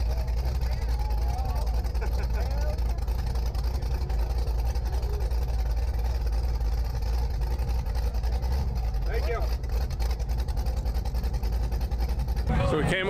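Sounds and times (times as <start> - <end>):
engine deep rumble: 0.0 - 13.0.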